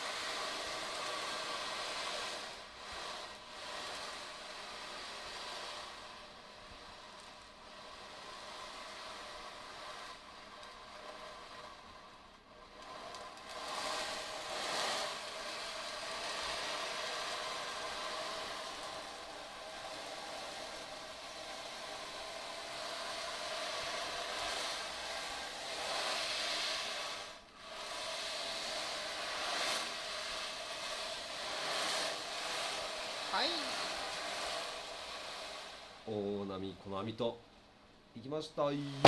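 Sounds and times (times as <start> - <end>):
ocean drum beads rolling: 0.0 - 36.4.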